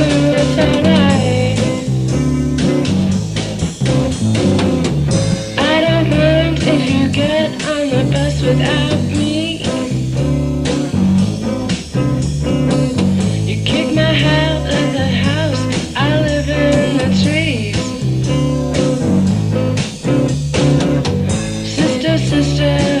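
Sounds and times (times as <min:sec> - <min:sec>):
repeating bass line: 0:00.0 - 0:22.9
electric guitar bent lead notes: 0:00.0 - 0:23.0.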